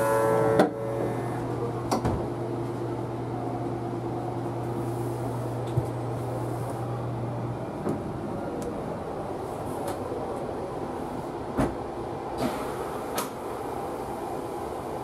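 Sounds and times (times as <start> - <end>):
train car equipment humming: 0.0 - 15.0.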